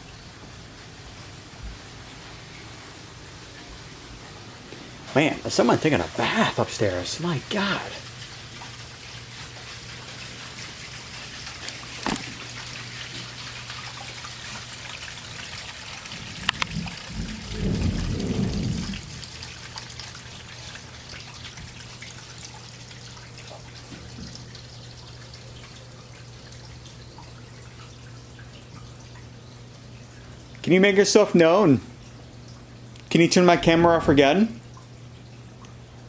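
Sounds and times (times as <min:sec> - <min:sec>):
water running through plumbing: 0:00.0 - 0:36.0.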